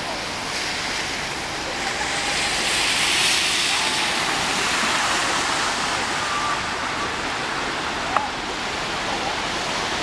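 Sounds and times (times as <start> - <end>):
floodwater rushing and splashing: 0.0 - 10.0.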